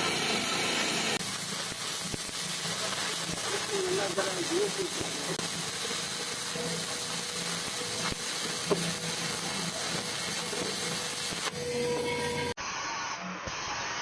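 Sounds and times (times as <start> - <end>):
welding arc hissing: 0.0 - 14.0.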